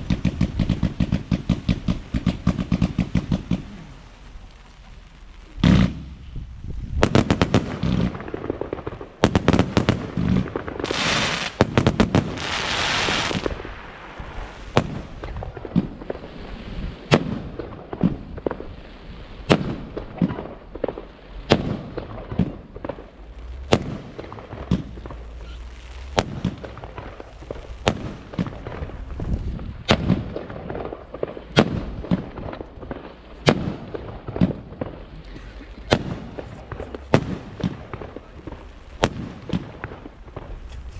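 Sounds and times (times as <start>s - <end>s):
firework hissing: 0.0s - 40.9s
firework shots: 0.0s - 40.9s.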